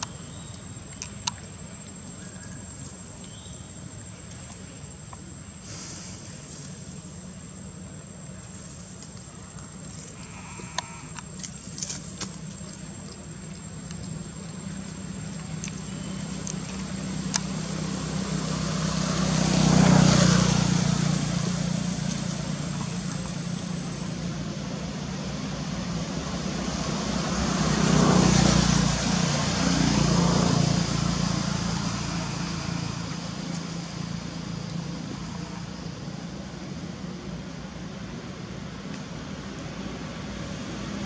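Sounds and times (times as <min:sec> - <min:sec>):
steady low hum: 0:00.0 - 0:41.0
vehicles passing: 0:00.0 - 0:41.0.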